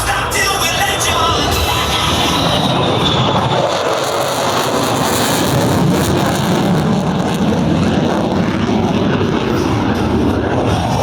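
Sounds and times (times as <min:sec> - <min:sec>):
fighter jet engine roar: 0:00.0 - 0:11.0.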